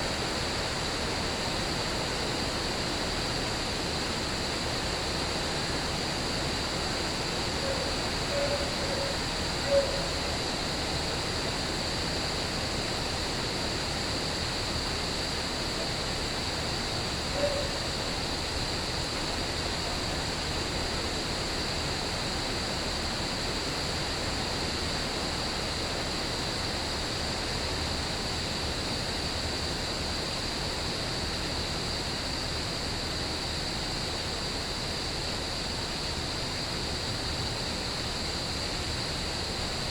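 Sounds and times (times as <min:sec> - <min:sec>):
crickets chirping: 0:00.0 - 0:39.9
steady rain: 0:00.0 - 0:39.9.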